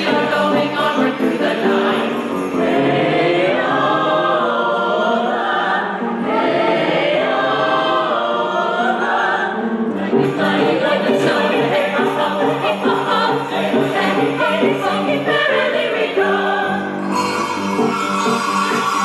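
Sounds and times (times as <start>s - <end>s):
choir singing a carol: 0.0s - 19.0s.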